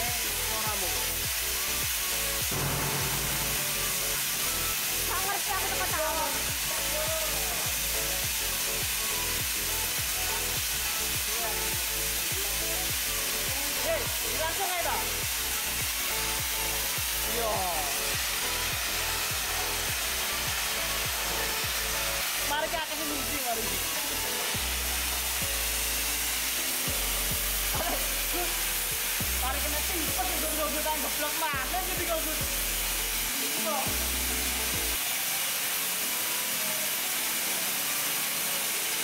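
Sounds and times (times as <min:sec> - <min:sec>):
music with deep bass beat: 0:00.0 - 0:33.3, 0:33.9 - 0:35.0
steam hissing: 0:00.0 - 0:39.0.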